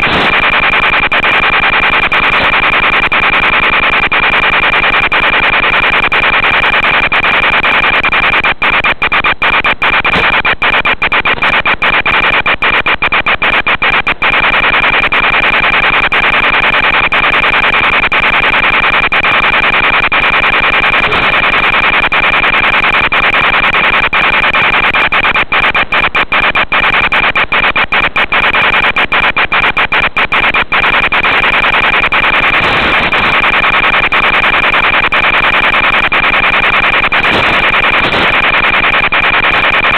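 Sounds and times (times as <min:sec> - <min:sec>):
constant high tone: 0:00.0 - 0:39.9
radio hiss and buzz: 0:00.0 - 0:39.9.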